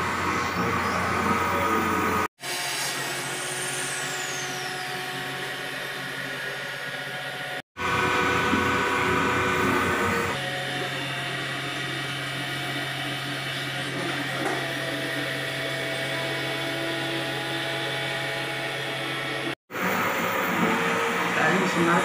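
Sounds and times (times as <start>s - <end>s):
winding machine motors whining: 0.0s - 2.3s, 3.0s - 22.0s.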